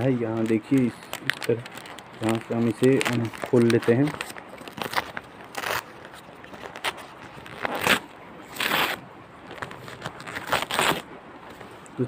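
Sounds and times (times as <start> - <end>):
paper envelope tearing: 0.0 - 11.1.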